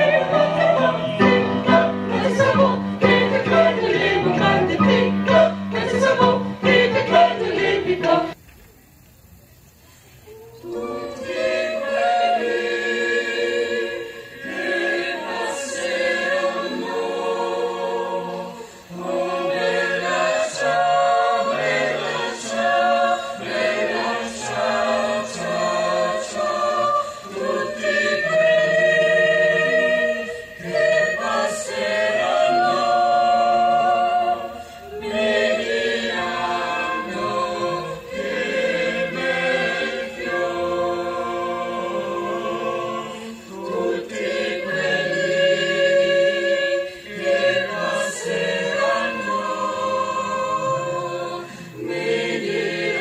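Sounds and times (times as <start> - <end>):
youth choir singing: 0.0 - 8.4, 10.3 - 53.0.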